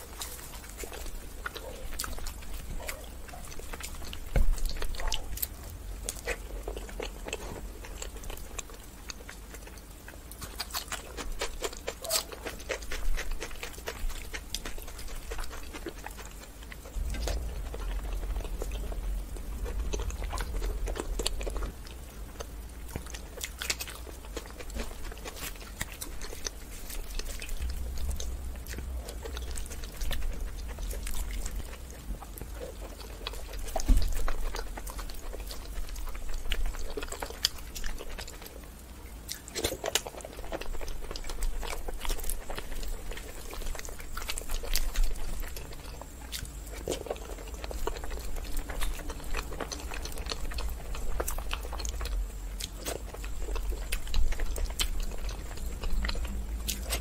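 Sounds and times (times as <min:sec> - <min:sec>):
wet chewing: 0:00.0 - 0:57.0.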